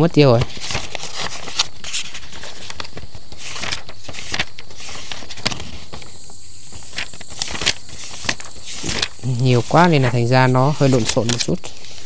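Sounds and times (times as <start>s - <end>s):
rustling and crackling rummaging: 0.2s - 12.0s.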